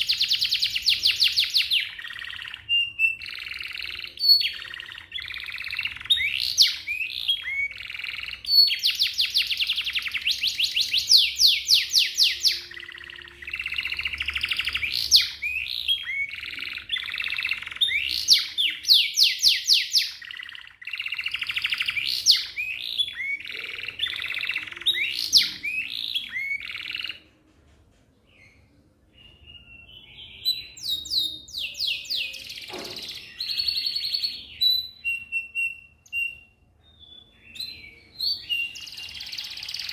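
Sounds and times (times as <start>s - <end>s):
canary singing trills: 0.0s - 27.3s, 28.3s - 39.9s.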